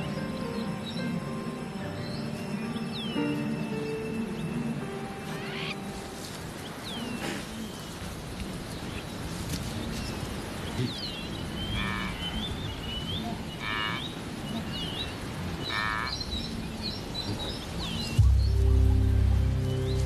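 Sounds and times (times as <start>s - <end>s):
steady grassland hiss: 0.0s - 20.0s.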